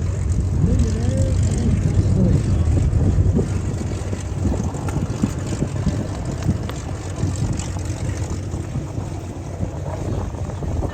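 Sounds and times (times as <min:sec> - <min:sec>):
low rumble: 0:00.0 - 0:10.9
wind buffeting microphone: 0:00.0 - 0:10.9.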